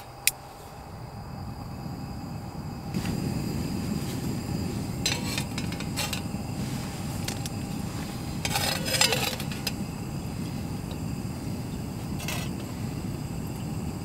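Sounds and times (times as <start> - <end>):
camp stove burning roar: 0.0 - 14.0.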